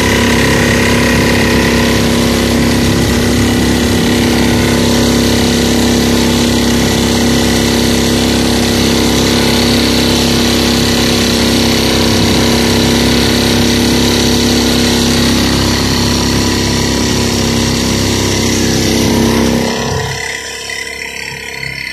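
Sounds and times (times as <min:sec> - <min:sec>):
outboard motor running: 0:00.0 - 0:21.9.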